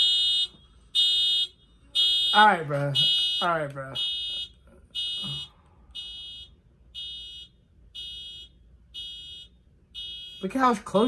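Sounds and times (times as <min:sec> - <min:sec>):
electronic alarm beeping: 0:00.0 - 0:10.5.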